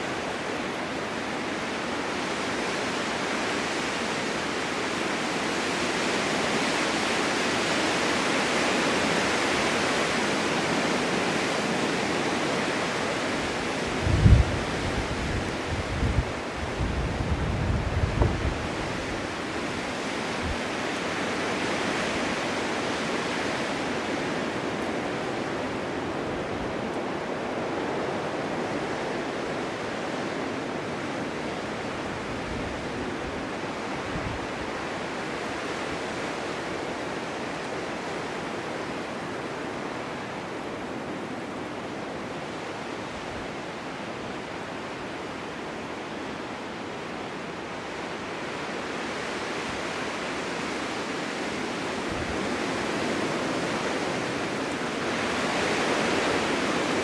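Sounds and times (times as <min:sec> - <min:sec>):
strong wind gusting: 0:00.0 - 0:57.0.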